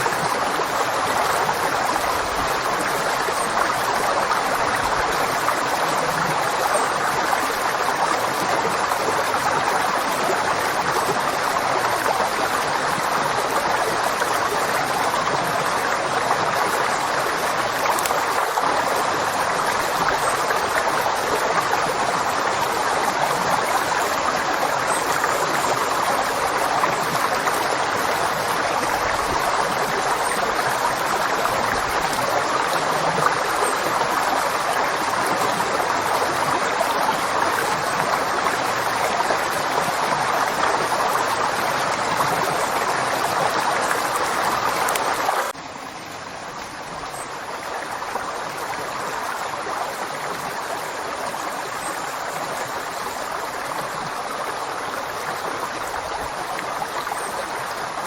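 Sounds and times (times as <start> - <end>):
river water rushing and gurgling: 0.0 - 58.0.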